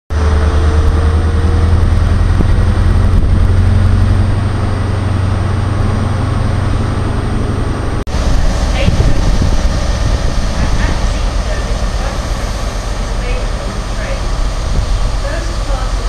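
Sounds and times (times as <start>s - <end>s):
diesel train engine humming: 0.1s - 16.0s.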